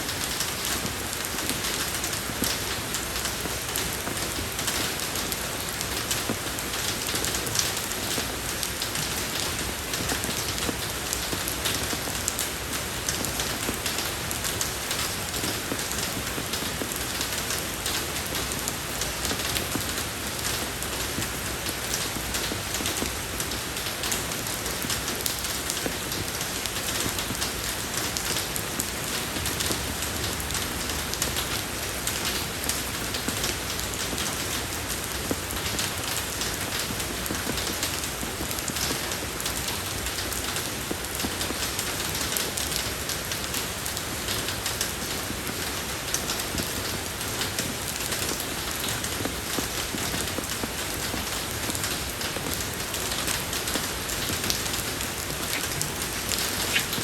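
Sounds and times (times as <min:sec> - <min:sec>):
rain falling on a road: 0:00.0 - 0:57.0.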